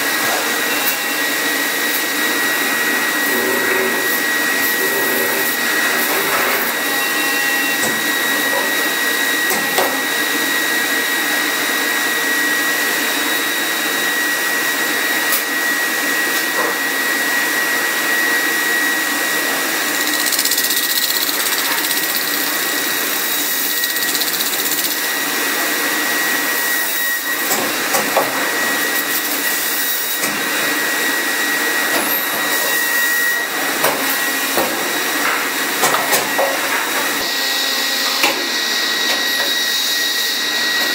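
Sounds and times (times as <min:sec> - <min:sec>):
metal-spinning lathe hiss and whine: 0:00.0 - 0:40.9.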